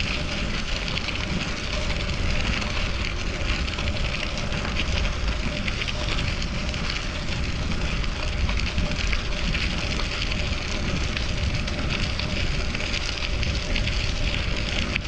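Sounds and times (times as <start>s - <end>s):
bicycle tyres rolling on road: 0.0s - 15.0s
wind rushing over microphone: 0.0s - 15.0s.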